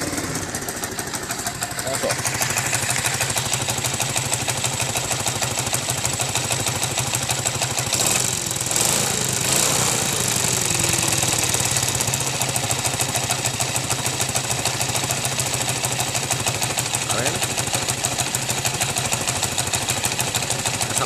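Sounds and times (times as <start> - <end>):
motorcycle engine idling with knocking: 0.0 - 21.0.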